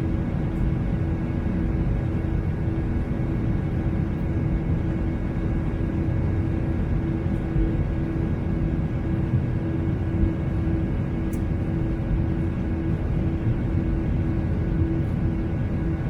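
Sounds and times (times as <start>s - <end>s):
constant hum: 0.0s - 16.0s
jet airliner cabin noise: 0.0s - 16.0s.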